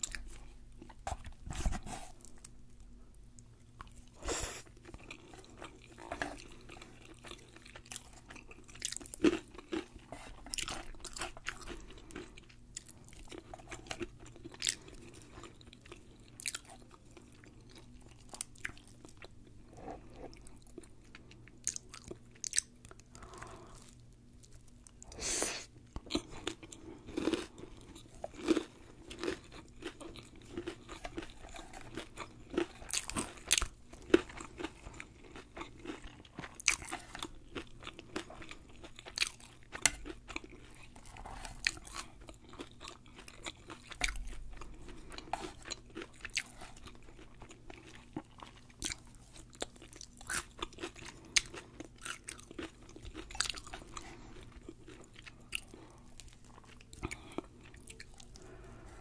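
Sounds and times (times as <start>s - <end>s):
crisp crunchy chewing: 3.3s - 25.1s, 25.9s - 59.0s.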